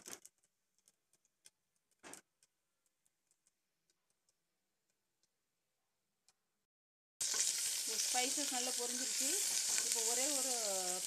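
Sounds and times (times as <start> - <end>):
spices popping in hot oil: 0.0 - 5.4, 7.2 - 11.0.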